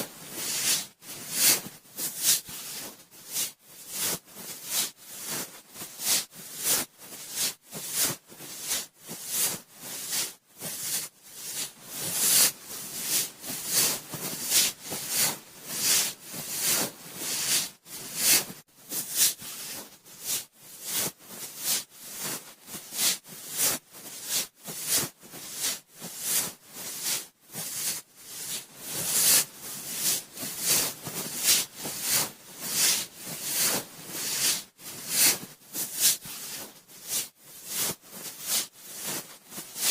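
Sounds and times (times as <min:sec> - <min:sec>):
cotton swab rubbing microphone: 0:00.0 - 0:39.9.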